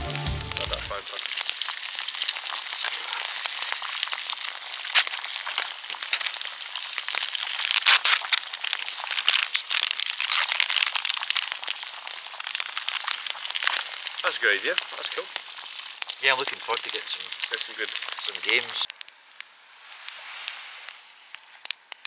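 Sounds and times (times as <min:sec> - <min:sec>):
food sizzling in a frying pan: 0:00.0 - 0:22.0
wood fire crackling: 0:00.0 - 0:22.0.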